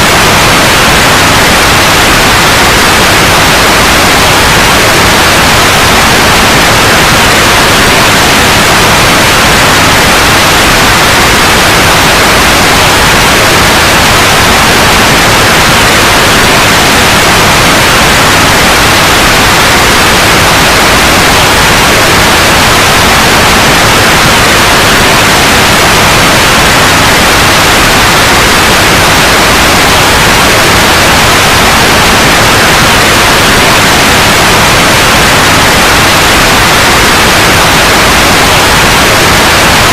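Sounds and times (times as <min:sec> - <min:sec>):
loud white noise: 0:00.0 - 0:39.9.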